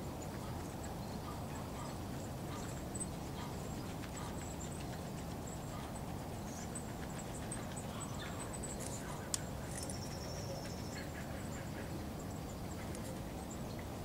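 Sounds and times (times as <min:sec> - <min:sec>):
small birds calling: 0:00.0 - 0:14.0.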